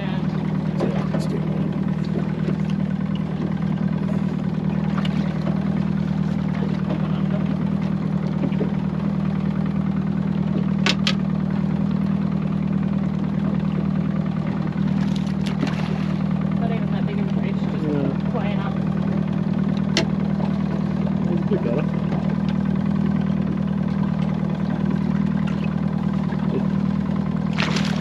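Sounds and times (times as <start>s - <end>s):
outboard motor droning: 0.0s - 28.0s.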